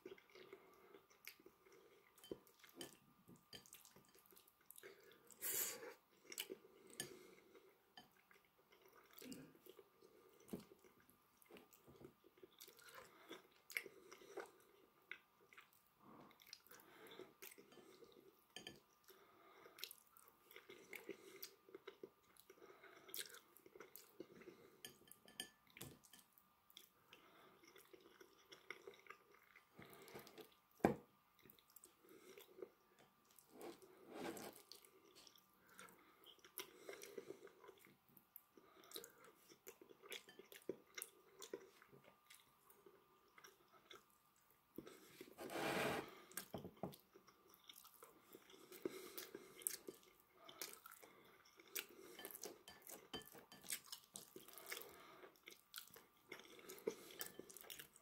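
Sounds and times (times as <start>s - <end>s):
person chewing food: 0.0s - 30.6s, 31.4s - 58.0s.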